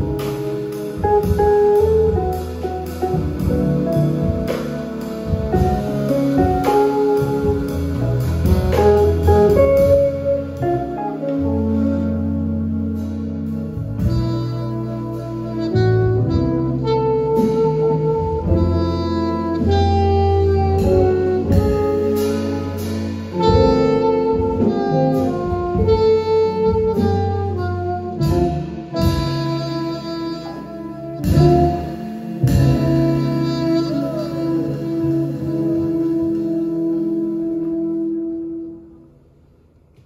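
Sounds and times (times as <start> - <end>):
saxophone melody: 0.0 - 39.2
live jazz band playing: 0.0 - 39.5.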